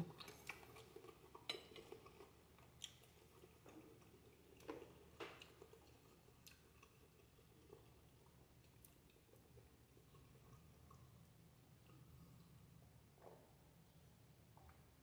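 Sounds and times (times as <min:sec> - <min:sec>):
faint chewing: 0:00.0 - 0:15.0.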